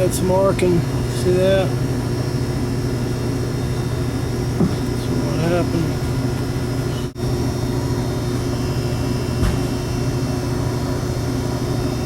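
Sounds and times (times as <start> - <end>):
high mechanical whine: 0.0 - 12.0
machinery humming: 0.0 - 12.0.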